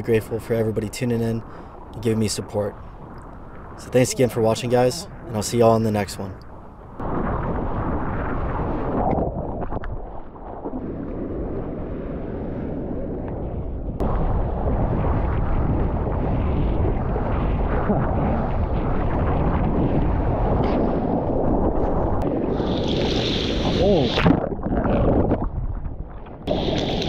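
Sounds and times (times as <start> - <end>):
wind buffeting microphone: 0.0 - 27.0
ocean water splashing: 1.4 - 16.5, 17.3 - 27.0.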